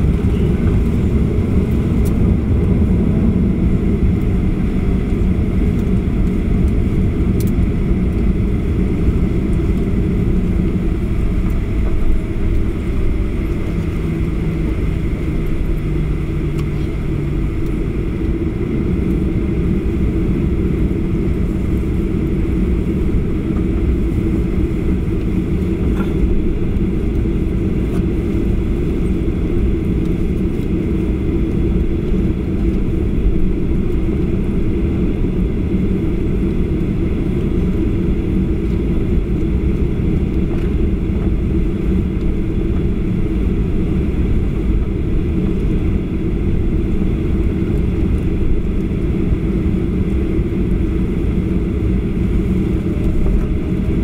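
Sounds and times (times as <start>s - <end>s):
aircraft engines low rumble: 0.0s - 54.0s
wheels rolling on taxiway: 0.0s - 54.0s.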